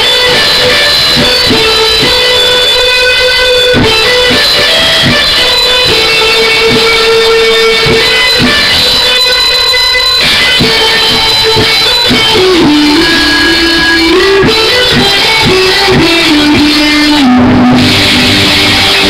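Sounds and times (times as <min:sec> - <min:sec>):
rock ballad with electric guitar: 0:00.0 - 0:19.0.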